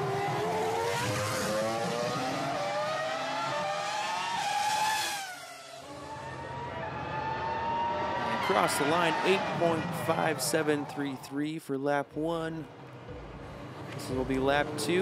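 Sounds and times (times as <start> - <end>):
race car engine revving: 0.0 - 10.9, 12.7 - 15.0.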